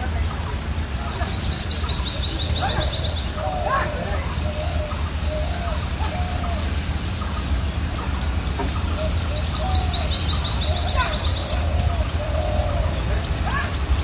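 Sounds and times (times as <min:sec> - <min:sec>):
low steady rumble: 0:00.0 - 0:14.0
bird trilling: 0:00.2 - 0:14.0.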